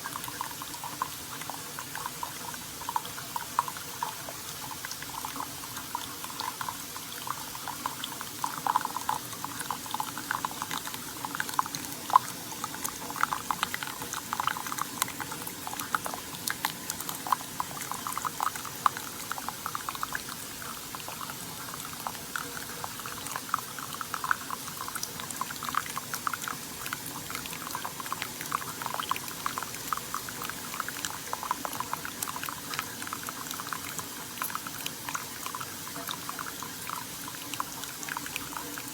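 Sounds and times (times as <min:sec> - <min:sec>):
coffee maker brewing: 0:00.0 - 0:38.9
liquid streaming and bubbling: 0:00.0 - 0:38.9.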